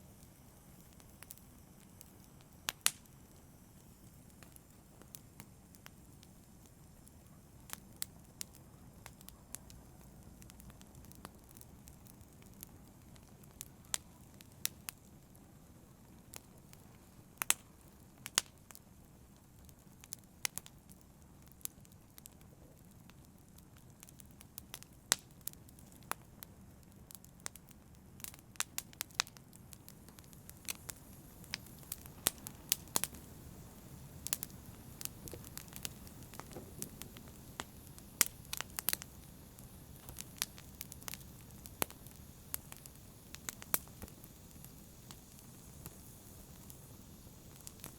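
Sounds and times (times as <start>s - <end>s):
burning wood crackling and popping: 0.0s - 47.9s
low rumble of flames: 0.1s - 47.9s.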